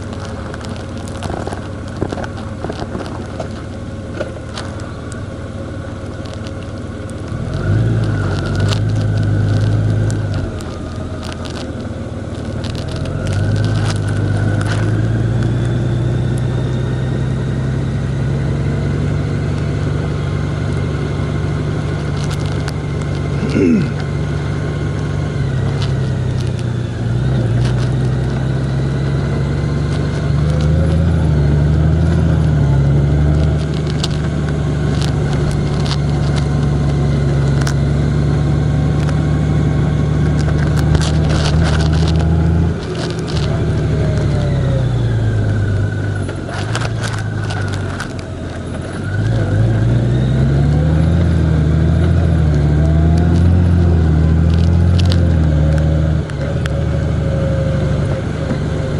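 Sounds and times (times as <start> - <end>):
sharp clicks and rattles: 0.0 - 17.6, 18.4 - 58.9
vehicle engine running: 0.0 - 58.9.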